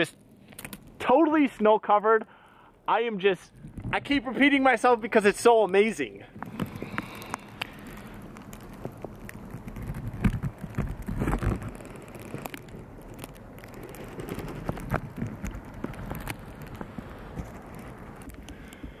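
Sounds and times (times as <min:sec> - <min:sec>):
low wind-like rumble: 0:02.7 - 0:19.0.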